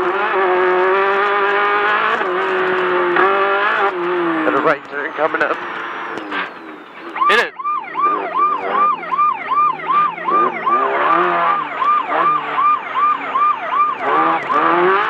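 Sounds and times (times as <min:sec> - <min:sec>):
race car engine revving: 0:00.0 - 0:15.0
electronic alarm yelping: 0:02.8 - 0:15.0.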